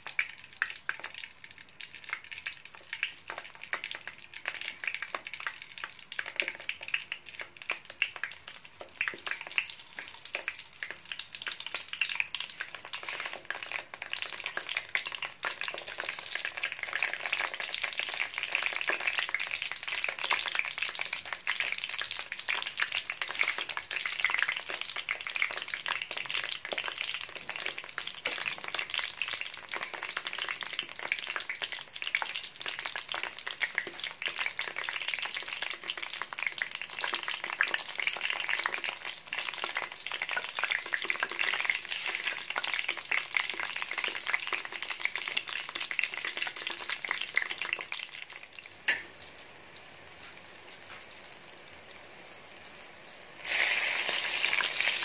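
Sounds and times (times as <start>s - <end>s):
eggplant frying in hot oil: 0.0s - 55.0s.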